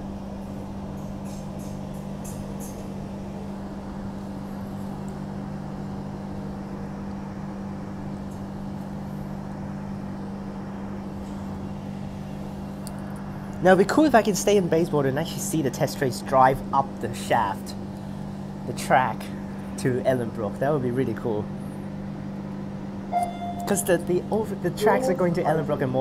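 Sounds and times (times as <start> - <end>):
train electrical hum: 0.0 - 26.0.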